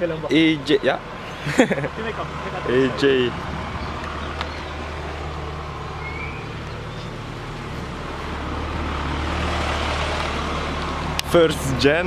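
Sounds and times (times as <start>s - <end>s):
traffic noise: 0.0s - 12.0s
vehicle engine rumble: 0.0s - 12.0s.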